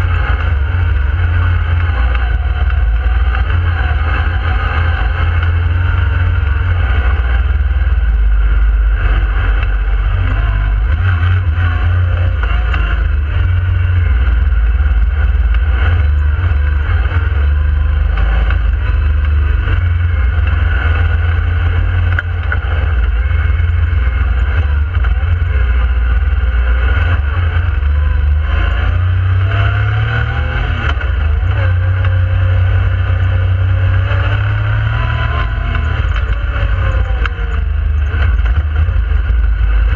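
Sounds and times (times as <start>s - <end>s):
engine running from inside cab: 0.0s - 39.9s.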